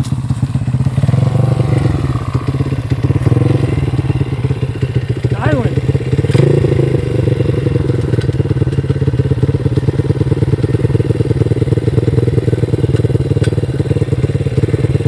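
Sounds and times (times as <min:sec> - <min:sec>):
motorbike engine idling: 0:00.0 - 0:15.0.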